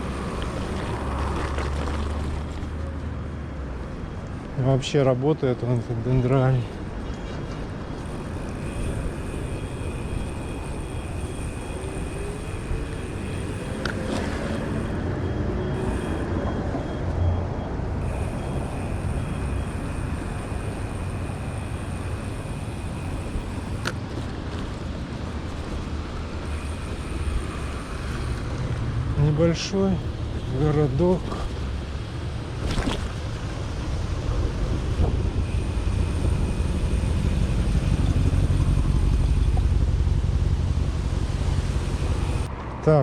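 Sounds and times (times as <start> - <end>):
wind and road noise rumble: 0.0 - 43.0.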